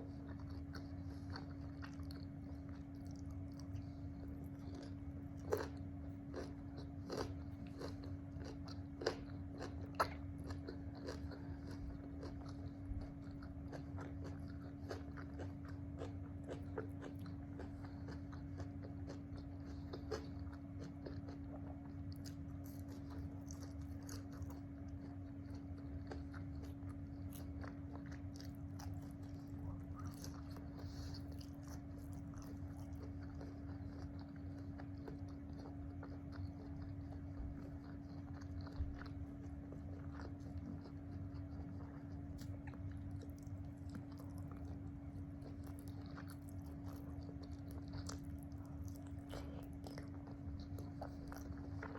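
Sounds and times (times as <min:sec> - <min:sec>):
crunchy chewing and biting: 0:00.0 - 0:51.9
steady low hum: 0:00.0 - 0:51.9.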